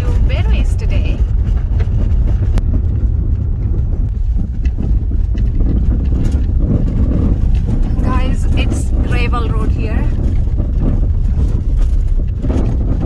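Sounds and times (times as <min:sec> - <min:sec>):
tyres rumbling on gravel: 0:00.0 - 0:13.0.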